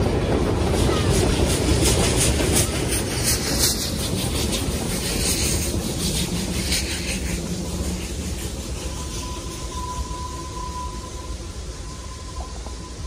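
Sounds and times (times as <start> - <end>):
steam train rumbling over bridge: 0.0 - 13.0.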